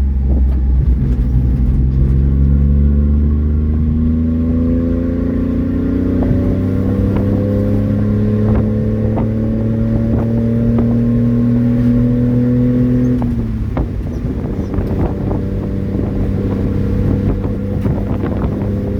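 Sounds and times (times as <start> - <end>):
raspy truck engine running: 0.0 - 18.9.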